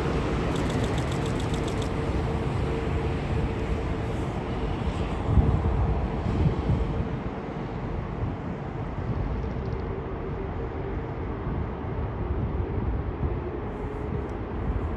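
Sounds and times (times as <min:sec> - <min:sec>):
faint engine whine: 0:00.0 - 0:14.9
jet engines rumbling: 0:00.0 - 0:14.9.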